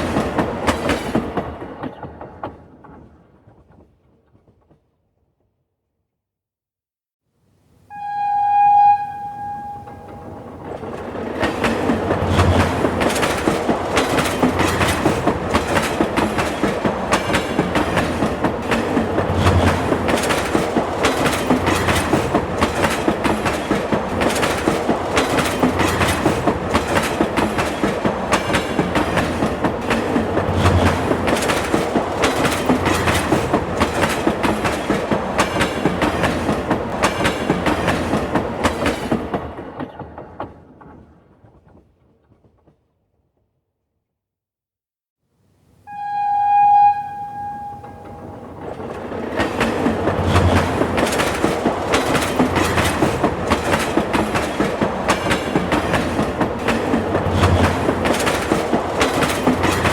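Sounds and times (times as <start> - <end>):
train wheels clickety-clack: 0.0 - 5.0, 10.0 - 42.9, 47.5 - 59.9.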